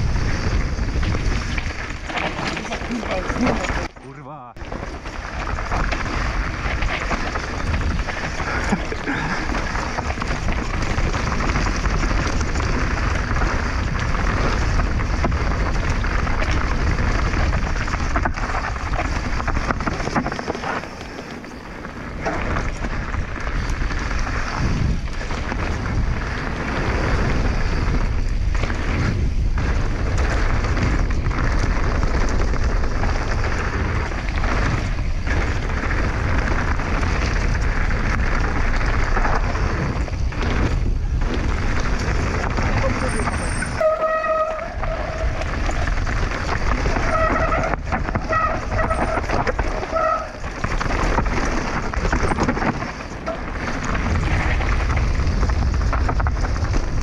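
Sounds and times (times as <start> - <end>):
bike tyres running over trail: 0.0 - 57.0
wind buffeting microphone: 0.0 - 57.0.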